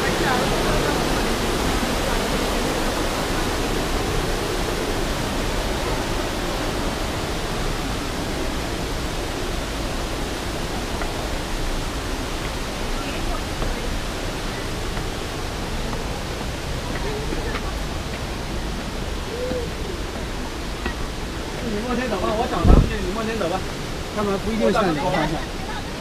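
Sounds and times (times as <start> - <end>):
water rushing over falls: 0.0 - 26.0.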